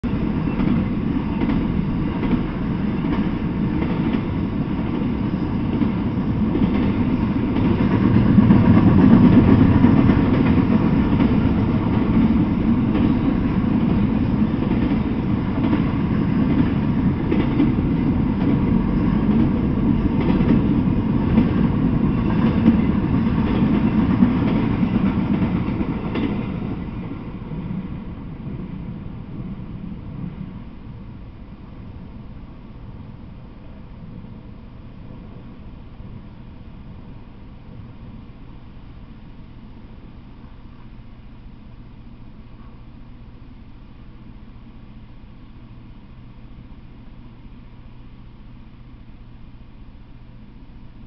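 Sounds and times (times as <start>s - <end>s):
train wheels rumbling on rails: 0.0s - 43.8s.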